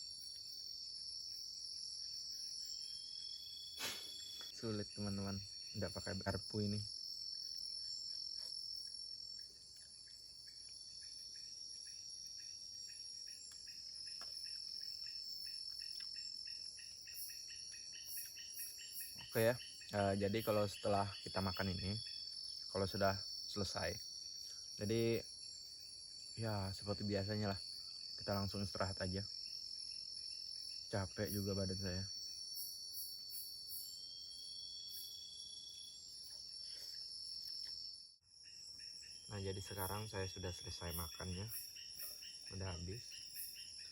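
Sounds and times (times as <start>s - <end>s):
insect pulsing chirp: 0.0s - 43.9s
insects buzzing drone: 0.0s - 43.9s.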